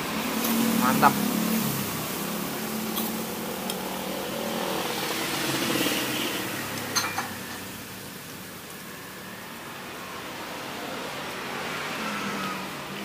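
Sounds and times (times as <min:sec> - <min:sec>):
passing vehicle engine: 0:00.0 - 0:08.1, 0:09.0 - 0:13.0.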